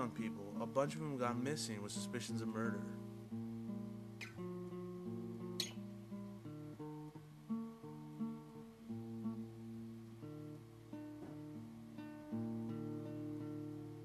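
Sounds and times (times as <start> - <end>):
guitar chords: 0.0 - 14.0.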